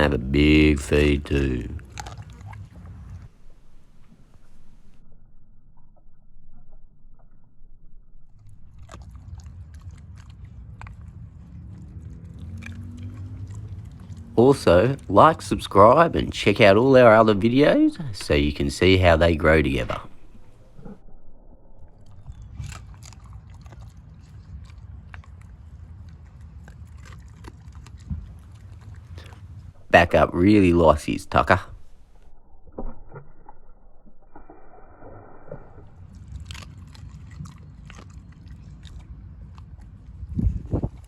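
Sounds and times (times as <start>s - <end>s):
dog crunching and chewing food: 0.0s - 5.0s, 8.2s - 21.0s, 21.9s - 34.6s, 35.5s - 41.0s.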